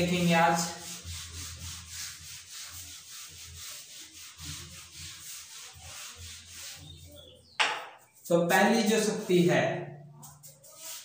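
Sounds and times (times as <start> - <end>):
eraser scrubbing whiteboard: 0.0 - 8.3, 10.2 - 11.0.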